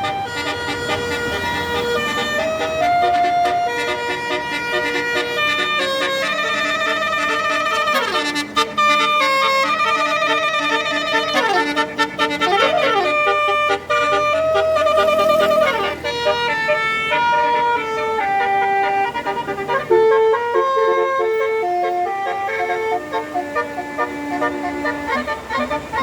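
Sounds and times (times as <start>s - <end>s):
bus musical horn melody: 0.0s - 26.0s.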